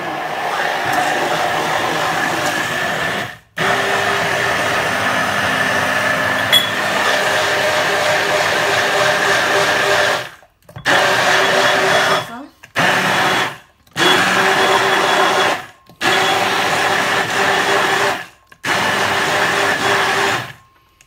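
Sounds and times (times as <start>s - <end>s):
stick blender motor whine: 0.0s - 20.6s.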